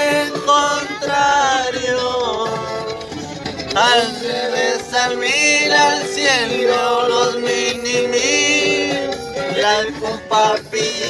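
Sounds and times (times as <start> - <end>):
corrido music: 0.0 - 11.0.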